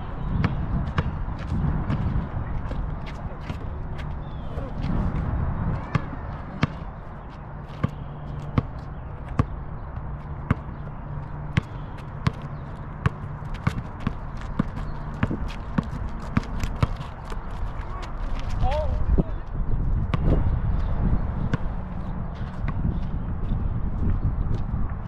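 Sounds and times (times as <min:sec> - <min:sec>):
basketball bouncing on asphalt: 0:00.2 - 0:18.9, 0:19.9 - 0:25.0.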